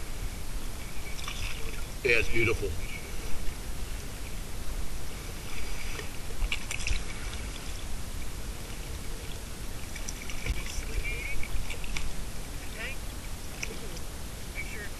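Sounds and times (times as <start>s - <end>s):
wind and water wash: 0.0s - 14.9s.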